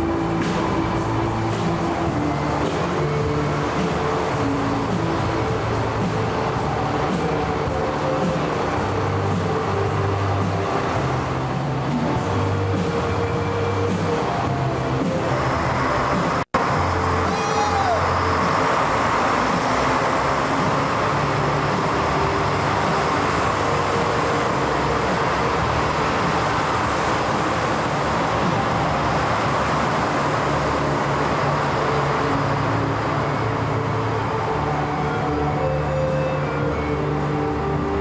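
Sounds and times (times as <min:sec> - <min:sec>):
diesel trains running: 0:00.0 - 0:38.0
faint background music: 0:00.0 - 0:38.0.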